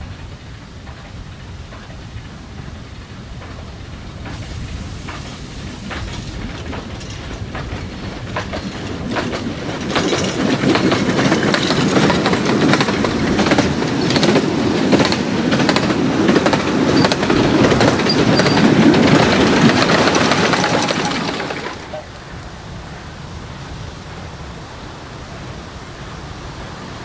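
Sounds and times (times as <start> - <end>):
wheels clattering over rail joints: 0.0 - 22.2
steam train passing: 0.0 - 27.0.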